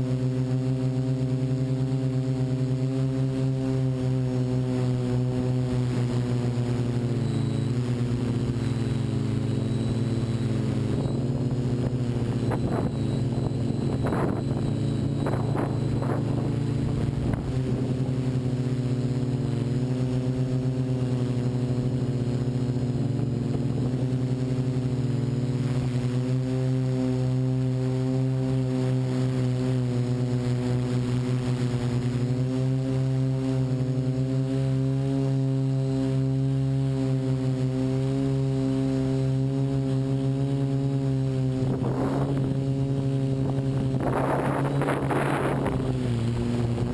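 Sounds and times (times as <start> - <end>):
drone propellers humming: 0.0 - 46.9.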